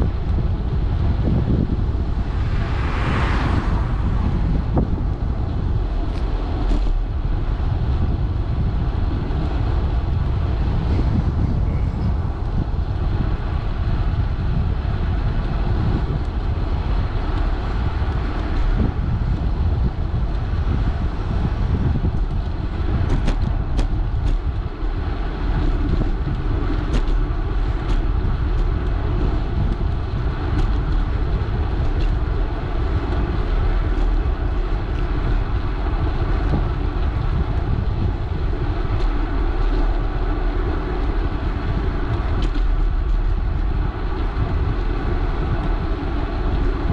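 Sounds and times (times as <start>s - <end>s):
tyres rolling on asphalt: 0.0s - 46.9s
wind on microphone: 0.0s - 46.9s.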